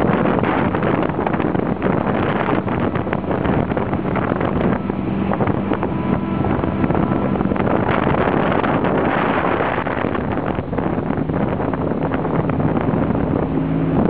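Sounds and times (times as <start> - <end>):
boat motor humming: 0.0 - 14.0
wind buffeting microphone: 0.0 - 14.0.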